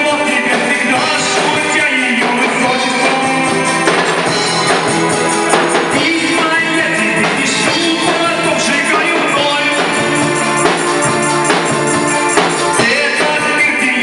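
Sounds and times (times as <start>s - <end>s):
band playing a song: 0.0s - 14.0s
steady drum beat: 0.0s - 14.0s.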